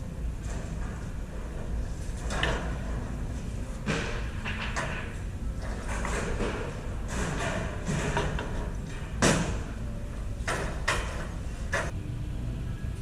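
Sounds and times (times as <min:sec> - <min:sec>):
store hum: 0:00.0 - 0:13.0.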